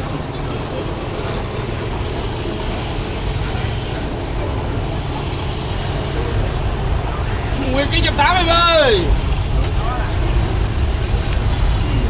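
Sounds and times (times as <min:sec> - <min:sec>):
motor vehicle engines rumbling: 0:00.0 - 0:12.0.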